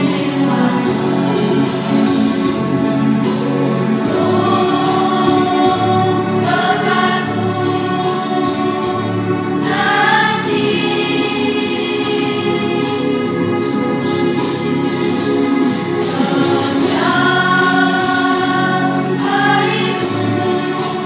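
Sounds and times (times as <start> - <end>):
children's choir singing: 0.0 - 21.0
instrumental accompaniment chords: 0.0 - 21.0.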